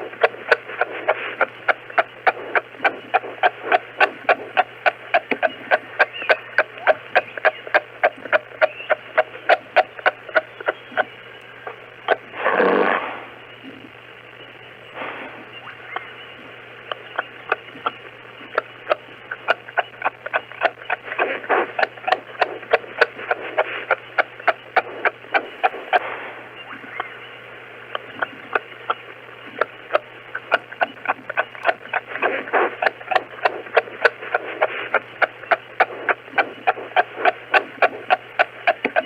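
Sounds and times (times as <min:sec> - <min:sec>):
kangaroo clicking clucks: 0:00.0 - 0:12.7, 0:15.6 - 0:39.0
low hum: 0:00.0 - 0:39.0.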